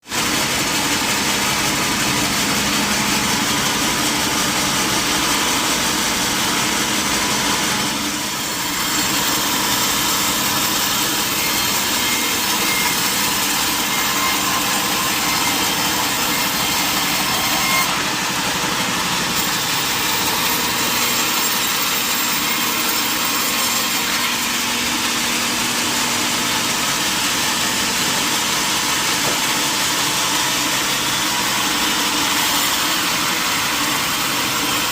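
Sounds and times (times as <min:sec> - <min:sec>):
sawmill saw cutting wood: 0:00.0 - 0:34.9.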